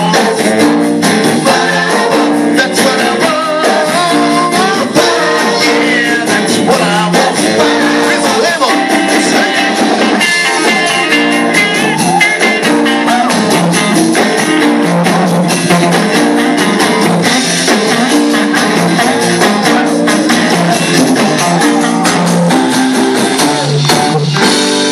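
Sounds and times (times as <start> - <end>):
live band playing soul music: 0.0 - 24.9.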